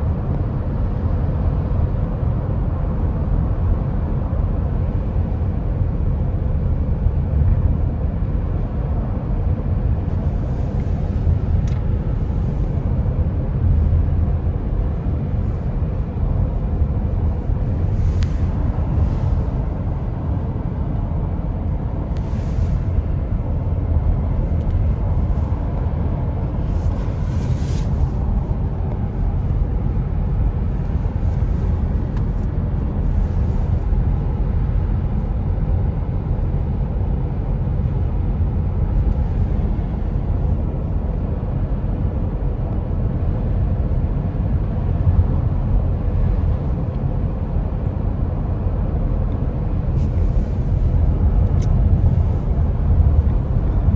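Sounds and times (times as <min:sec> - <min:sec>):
road and wind noise in car: 0:00.0 - 0:53.9.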